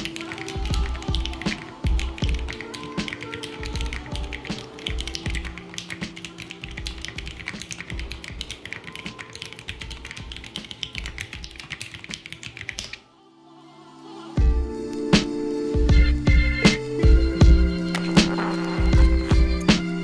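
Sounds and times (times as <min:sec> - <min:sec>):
background music with a beat: 0:00.0 - 0:12.9, 0:14.4 - 0:20.0.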